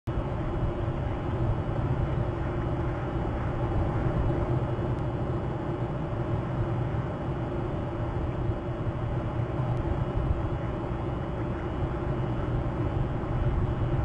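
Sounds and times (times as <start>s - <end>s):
low outdoor rumble: 0.1s - 14.0s.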